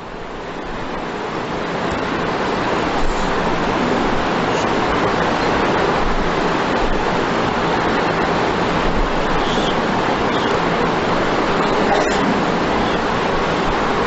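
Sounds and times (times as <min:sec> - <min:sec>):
steady loud hiss: 0:00.0 - 0:14.0.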